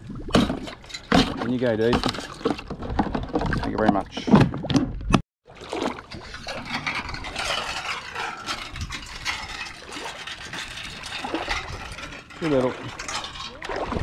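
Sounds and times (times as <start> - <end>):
shallow water swishing and trickling: 0.0 - 3.8, 5.4 - 14.0.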